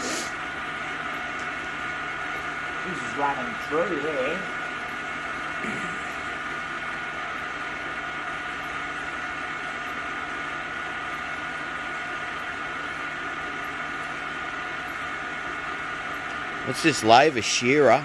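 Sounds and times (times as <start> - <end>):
lathe humming with high whine: 0.0 - 18.0.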